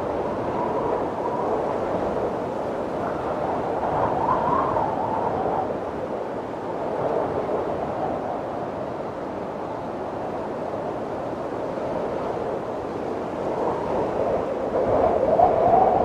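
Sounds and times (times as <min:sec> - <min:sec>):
snowstorm wind howling: 0:00.0 - 0:16.0.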